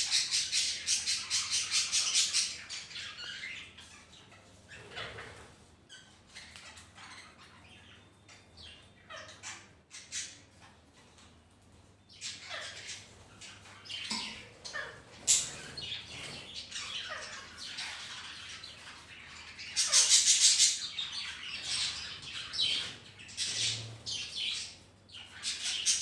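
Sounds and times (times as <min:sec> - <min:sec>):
parakeets squawking and chirping: 0:00.0 - 0:11.3, 0:12.1 - 0:26.0.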